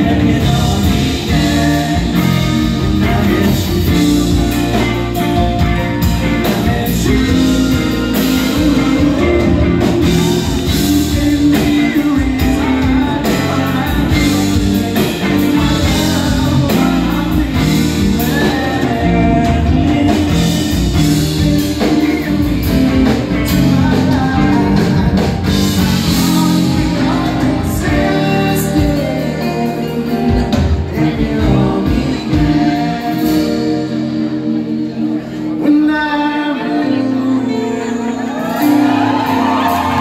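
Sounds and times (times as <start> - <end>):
live rock band: 0.0 - 40.0
man singing: 0.0 - 40.0.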